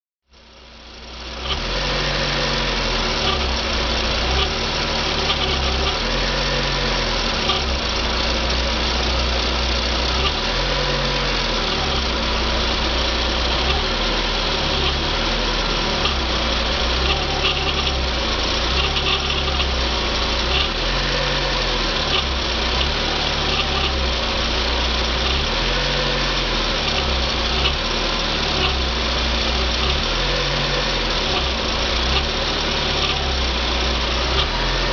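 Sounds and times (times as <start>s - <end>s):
car engine running at low revs: 0.3s - 34.9s.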